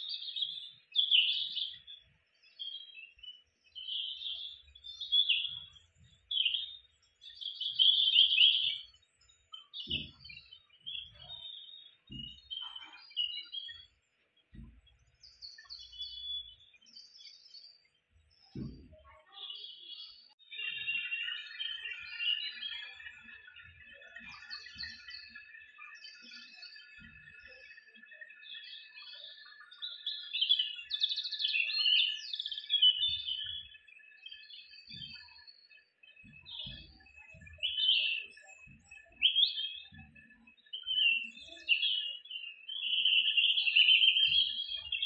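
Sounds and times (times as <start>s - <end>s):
small birds chirping and twittering: 0.0s - 45.0s.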